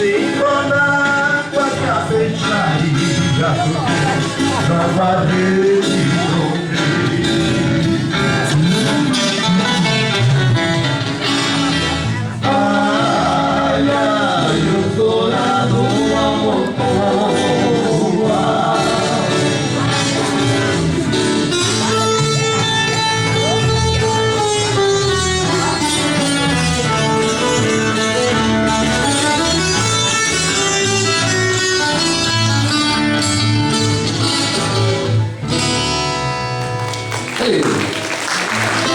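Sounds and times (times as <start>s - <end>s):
plucked acoustic guitars: 0.0s - 38.9s
sliding lead guitar melody: 0.0s - 38.9s.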